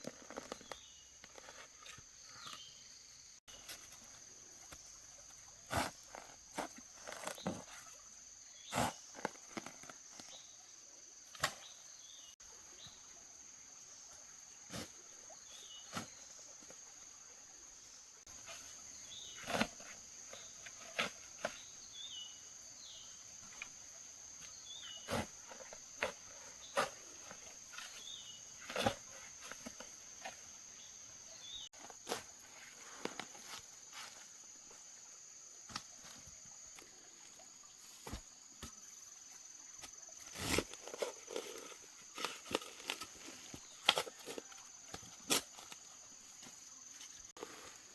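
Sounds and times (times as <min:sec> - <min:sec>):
insect drone: 0:00.0 - 0:47.9.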